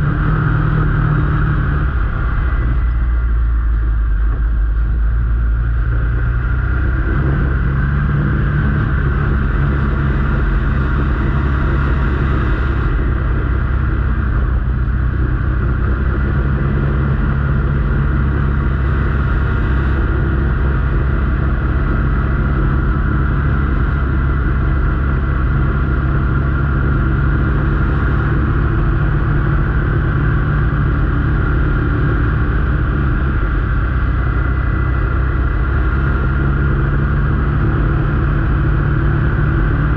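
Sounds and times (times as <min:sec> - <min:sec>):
steady whine: 0:00.0 - 0:39.9
vehicle engine running: 0:00.0 - 0:39.9.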